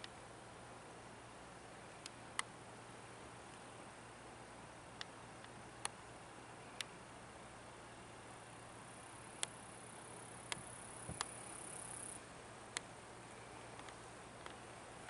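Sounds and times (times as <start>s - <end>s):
high steady whine: 0.0s - 15.0s
steady low hiss: 0.0s - 15.0s.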